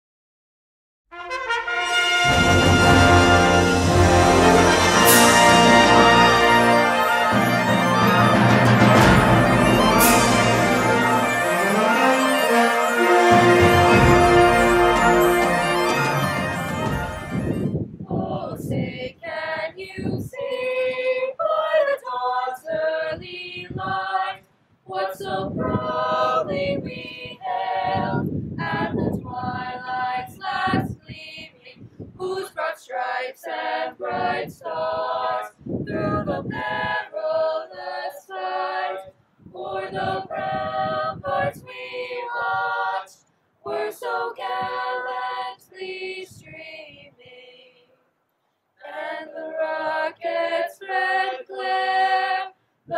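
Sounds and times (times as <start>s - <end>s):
choir singing: 1.4s - 30.9s, 32.2s - 47.6s, 48.8s - 52.9s.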